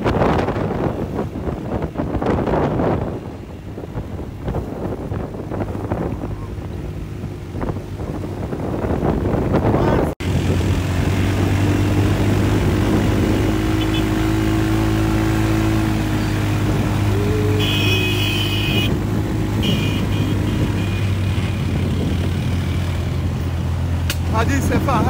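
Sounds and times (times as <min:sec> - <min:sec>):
off-road vehicle engine running: 0:00.0 - 0:25.0
quad bike engine: 0:00.0 - 0:25.0.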